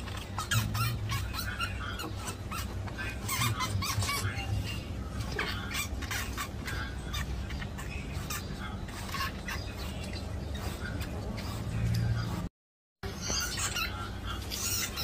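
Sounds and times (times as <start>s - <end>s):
rat squeaking: 0.0s - 15.0s
steady low hum: 0.0s - 15.0s.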